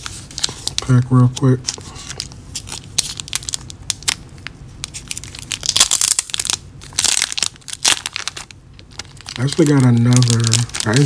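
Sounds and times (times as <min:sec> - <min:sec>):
plastic sleeve crinkling: 0:00.0 - 0:11.0.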